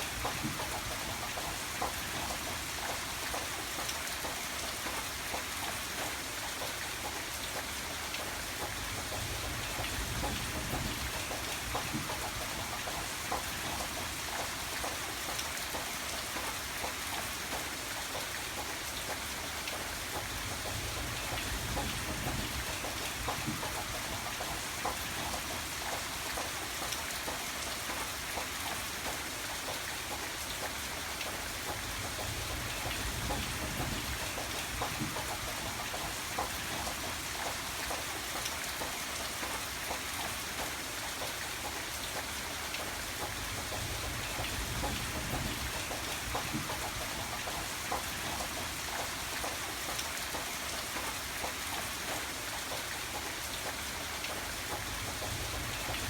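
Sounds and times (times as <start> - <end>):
rain drops ticking on surface: 0.0 - 56.0.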